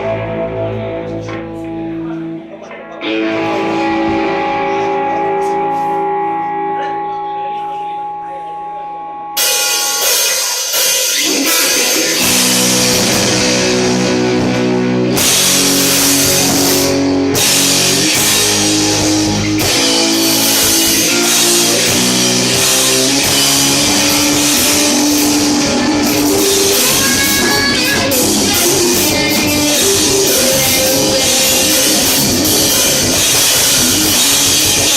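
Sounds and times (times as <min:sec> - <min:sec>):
drum kit: 0:00.0 - 0:07.8, 0:09.4 - 0:34.9
electric guitar: 0:00.0 - 0:34.9.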